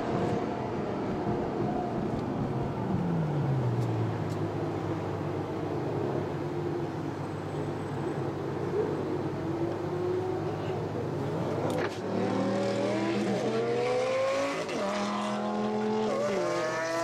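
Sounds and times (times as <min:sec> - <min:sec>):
car engine while driving: 0:00.0 - 0:17.0.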